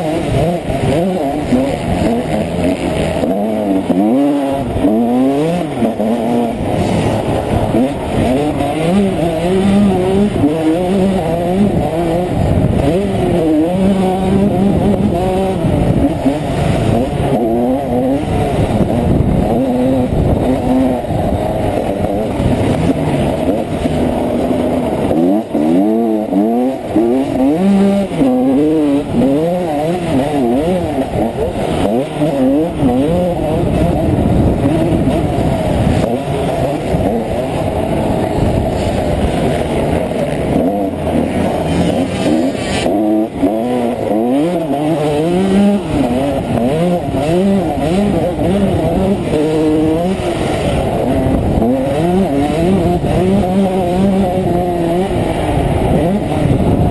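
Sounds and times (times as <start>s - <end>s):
two-stroke motorcycle engine revving: 0.0s - 56.9s.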